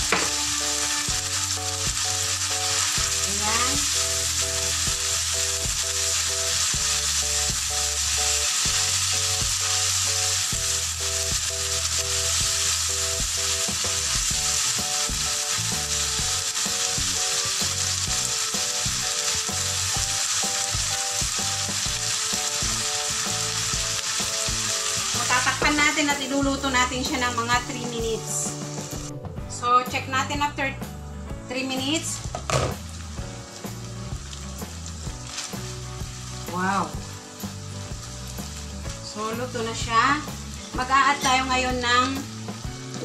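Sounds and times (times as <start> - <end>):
meat and beans sizzling in pan: 0.0 - 29.2, 31.4 - 43.0.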